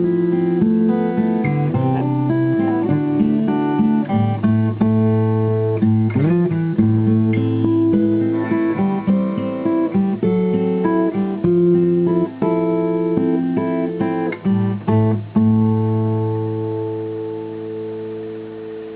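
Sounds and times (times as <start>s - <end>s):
acoustic guitar playing: 0.0s - 18.9s.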